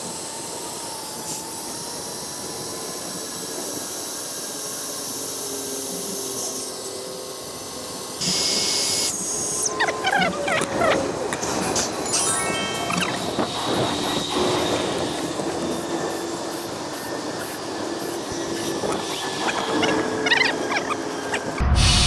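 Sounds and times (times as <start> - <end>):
electric air pump running: 0.0 - 21.6.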